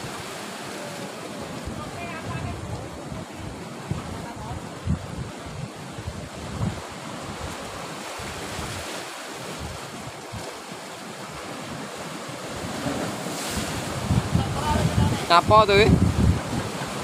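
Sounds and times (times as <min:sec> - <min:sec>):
sea surf breaking: 0:00.0 - 0:17.0
wind buffeting microphone: 0:01.4 - 0:10.6, 0:12.5 - 0:17.0.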